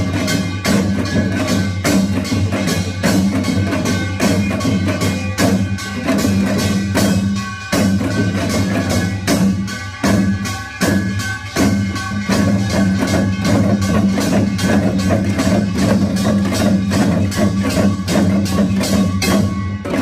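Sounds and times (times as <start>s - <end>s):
fast percussion strikes: 0.0s - 20.0s.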